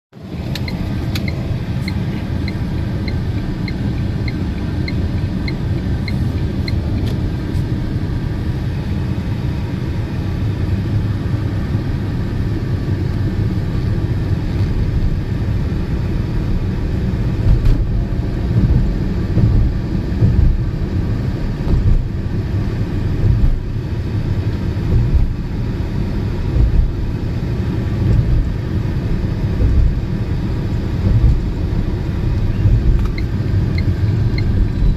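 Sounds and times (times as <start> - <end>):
tyre and wind road noise: 0.1 - 34.9.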